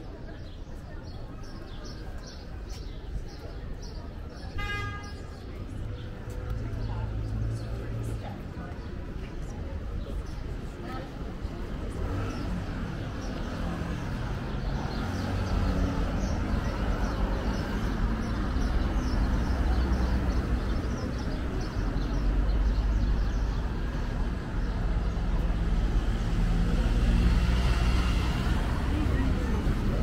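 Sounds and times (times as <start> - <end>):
faint voices: 0.0 - 30.0
vehicle engine rumbling: 5.5 - 30.0.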